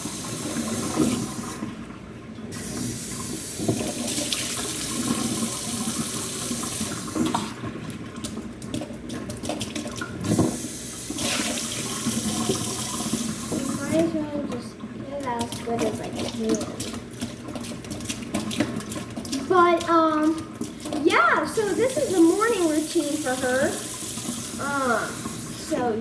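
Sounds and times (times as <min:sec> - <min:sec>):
tap water running into sink: 0:00.0 - 0:26.0
water splashing on dish: 0:02.5 - 0:26.0.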